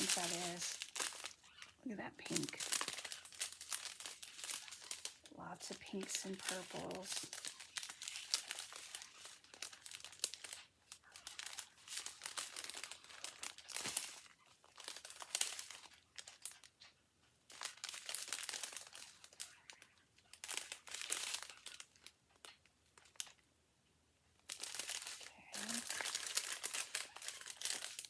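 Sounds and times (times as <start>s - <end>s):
plastic bags crinkling: 0.0s - 16.8s, 17.5s - 23.4s, 24.4s - 28.0s.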